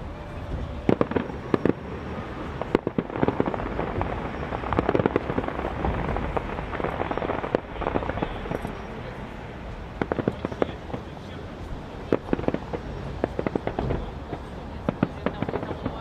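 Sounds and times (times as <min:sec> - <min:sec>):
fireworks crackling and banging: 0:00.0 - 0:16.0
sharp firework crack: 0:00.8 - 0:09.0, 0:09.9 - 0:11.4, 0:12.0 - 0:16.0.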